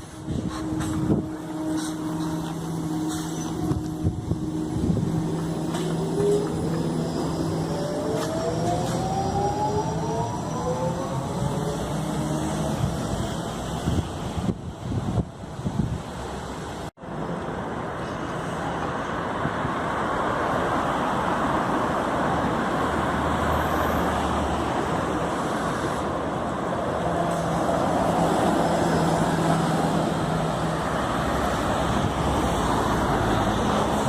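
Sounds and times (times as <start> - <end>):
road traffic noise: 0.0 - 34.0.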